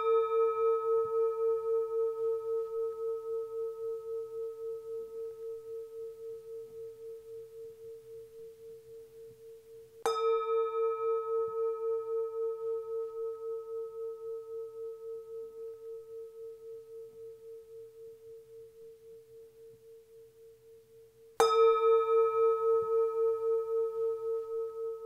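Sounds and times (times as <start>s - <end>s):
singing bowl ringing: 0.0s - 20.6s, 21.4s - 25.0s.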